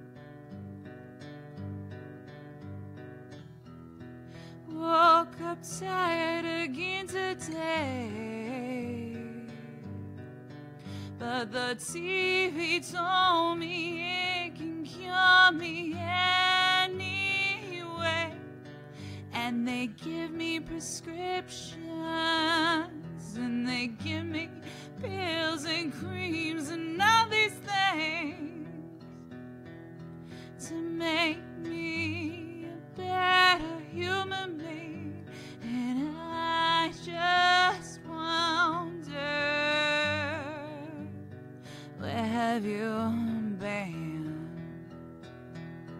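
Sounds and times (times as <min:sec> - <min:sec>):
guitar chords: 0:00.0 - 0:45.9
woman singing slow song: 0:04.4 - 0:29.4, 0:30.3 - 0:45.0.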